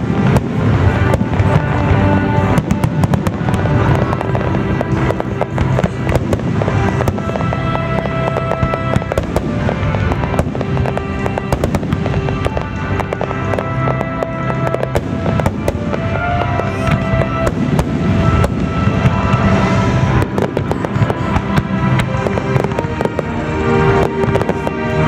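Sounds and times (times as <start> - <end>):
fireworks bursting: 0.0 - 25.0
music playing: 0.0 - 25.0.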